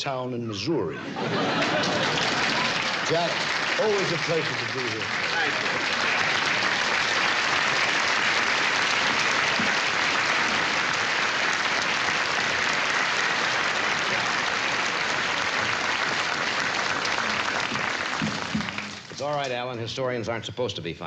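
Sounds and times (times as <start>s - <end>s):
audience applauding: 1.1s - 19.6s.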